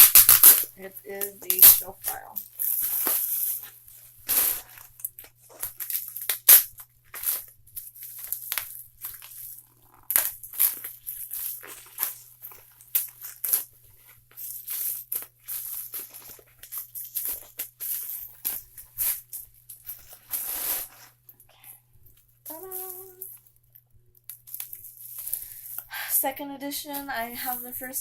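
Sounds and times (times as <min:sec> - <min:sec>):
plastic packaging crinkling and tearing: 0:00.0 - 0:21.2, 0:24.3 - 0:25.9.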